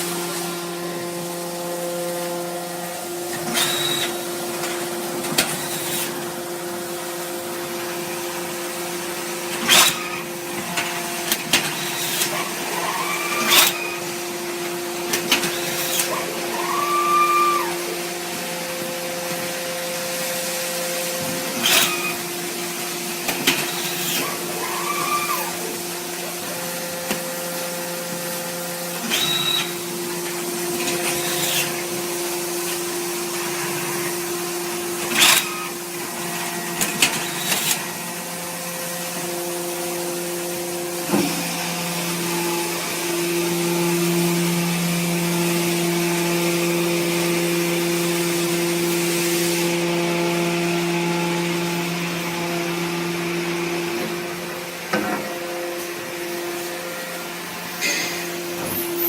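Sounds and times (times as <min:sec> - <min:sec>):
baler motor and pump humming: 0:00.0 - 0:59.0.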